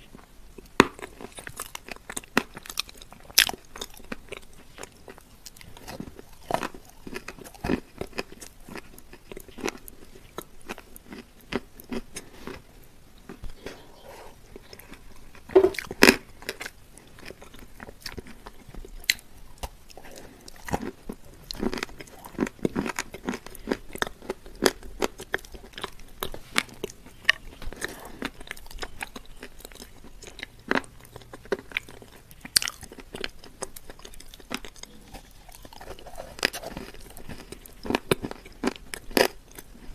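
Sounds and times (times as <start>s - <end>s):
biting and chewing crunches: 0.0s - 39.9s.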